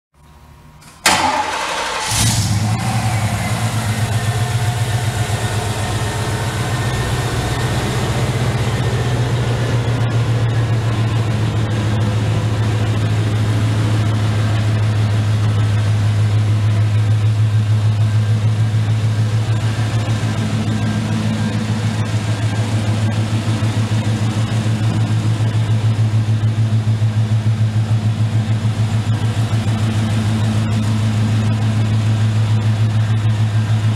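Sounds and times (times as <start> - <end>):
engine cranking and idling: 0.8 - 33.9.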